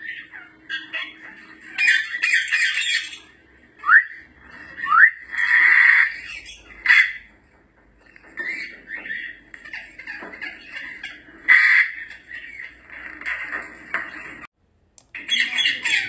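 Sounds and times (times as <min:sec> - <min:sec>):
parrot squawking: 0:00.0 - 0:07.4, 0:08.2 - 0:14.4, 0:15.2 - 0:16.0.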